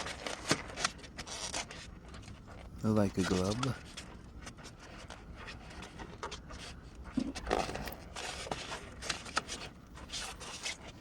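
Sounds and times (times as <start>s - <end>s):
hands scraping and rustling parts: 0.0s - 11.0s.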